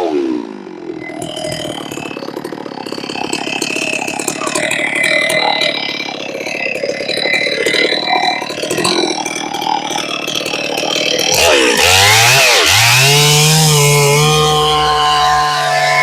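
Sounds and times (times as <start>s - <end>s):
chainsaw idling and revving: 0.0s - 16.0s.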